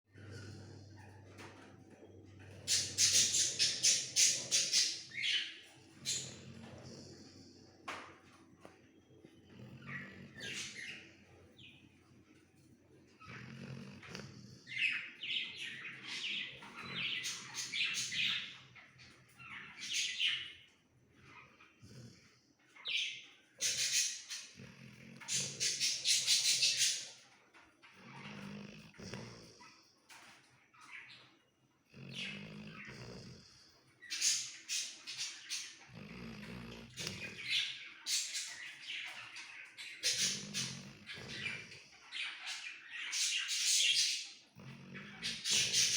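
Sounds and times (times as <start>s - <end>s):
dog snoring: 0.1s - 18.8s, 19.4s - 45.9s.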